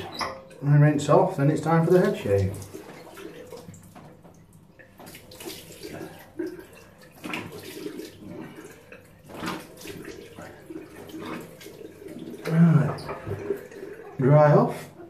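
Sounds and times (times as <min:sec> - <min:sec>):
water splashing in a basin: 0:00.0 - 0:15.0.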